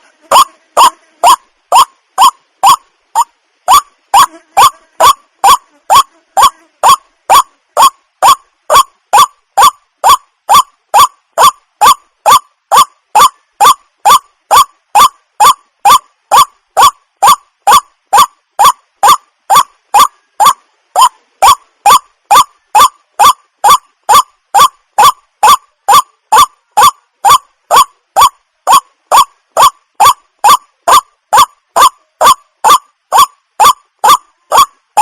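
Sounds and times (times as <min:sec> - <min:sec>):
waterhen calling: 0:00.0 - 0:35.0.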